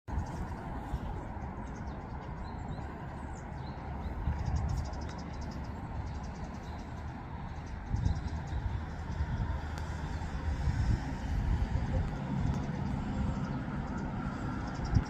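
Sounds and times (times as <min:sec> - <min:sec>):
steady low rumble: 0:00.1 - 0:15.0.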